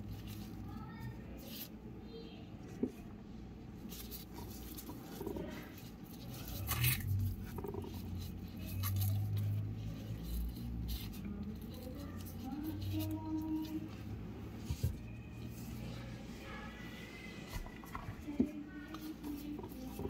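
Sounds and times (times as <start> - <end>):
plastic gloves rustling: 0.0 - 1.8, 3.7 - 20.0
soft squishing of filling: 0.0 - 16.3.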